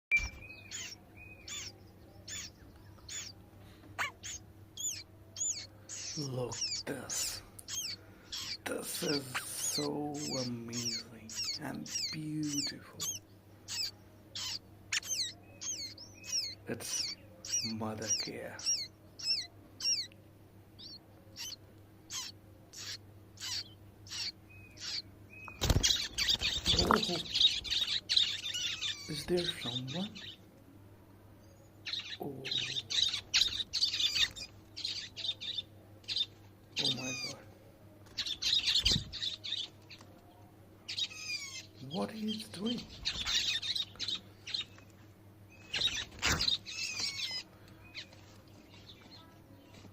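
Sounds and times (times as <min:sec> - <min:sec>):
bird calling: 0:00.1 - 0:20.2, 0:20.8 - 0:30.4, 0:31.8 - 0:37.5, 0:38.2 - 0:40.1, 0:40.9 - 0:48.2.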